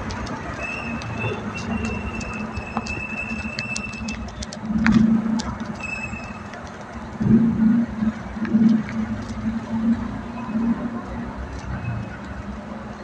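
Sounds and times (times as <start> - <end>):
nearby engines surging: 0.0 - 13.0
traffic engines humming: 0.0 - 13.0.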